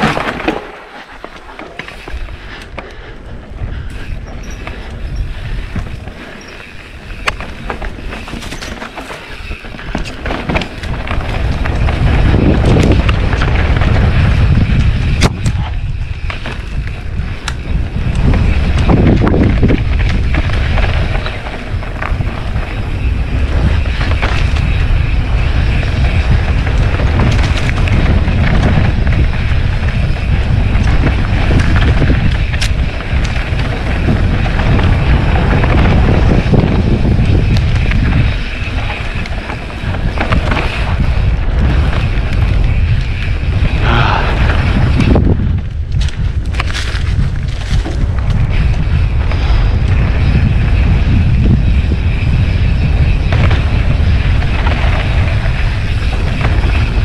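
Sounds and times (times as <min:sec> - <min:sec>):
bike rattling over bumps: 0:00.0 - 0:57.0
wind buffeting microphone: 0:01.8 - 0:57.0.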